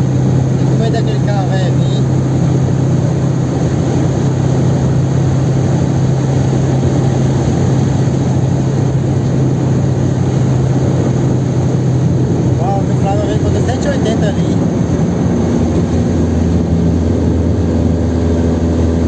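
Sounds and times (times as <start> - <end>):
car engine droning: 0.0 - 19.0
road and wind noise: 0.0 - 19.0.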